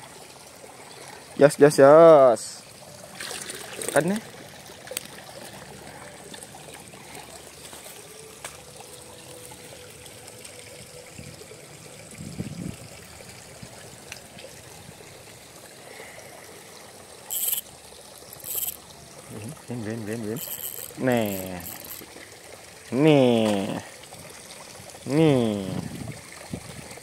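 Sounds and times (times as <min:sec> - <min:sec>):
water trickling: 0:00.0 - 0:27.0.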